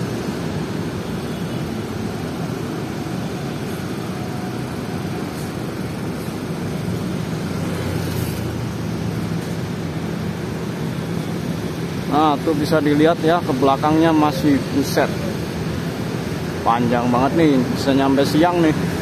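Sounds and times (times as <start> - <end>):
bus diesel engines running: 0.0 - 19.0.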